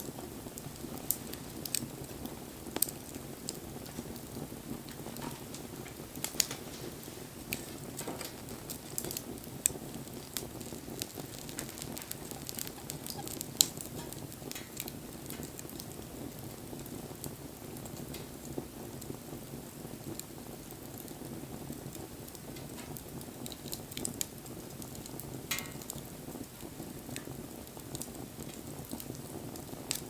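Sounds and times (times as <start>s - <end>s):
campfire flames fluttering: 0.0s - 30.0s
fire crackling and popping: 0.0s - 30.0s.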